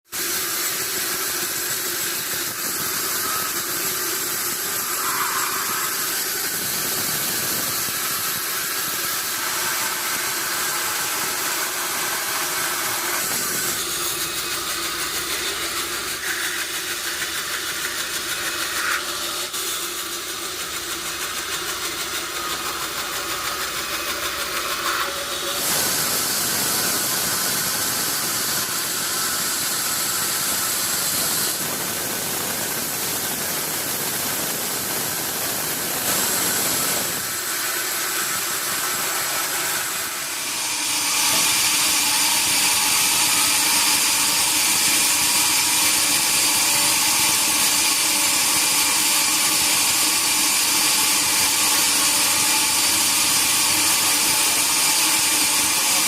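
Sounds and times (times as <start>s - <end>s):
sawmill machinery running: 0.1s - 56.0s.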